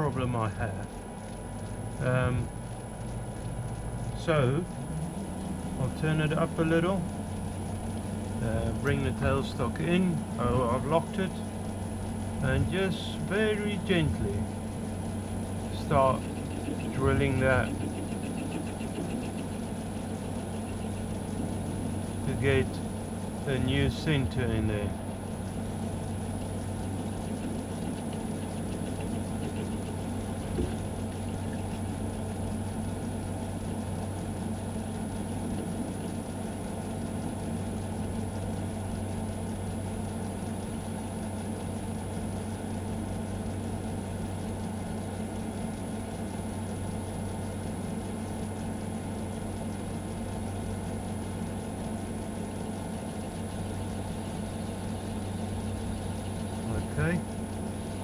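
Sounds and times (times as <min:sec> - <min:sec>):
metal lathe motor humming: 0:00.0 - 0:58.0.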